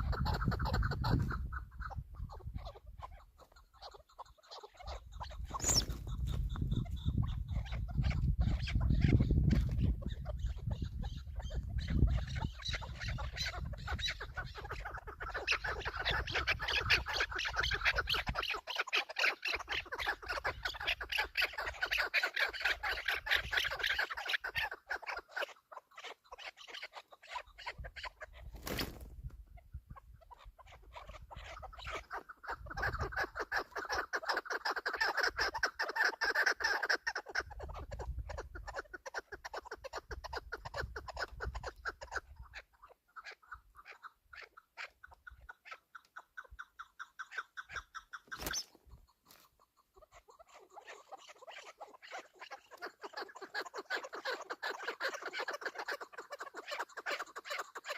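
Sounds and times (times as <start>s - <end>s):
partridge clucking calls: 0.0s - 57.9s.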